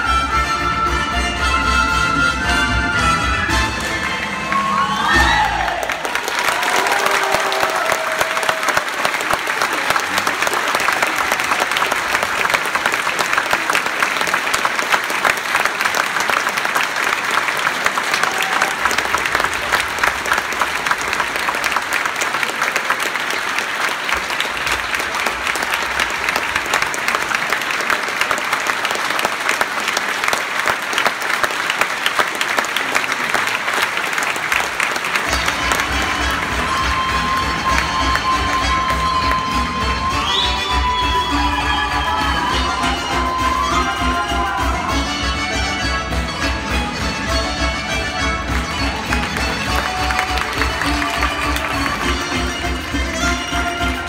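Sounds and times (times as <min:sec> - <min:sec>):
audience applauding: 0:02.7 - 0:54.0.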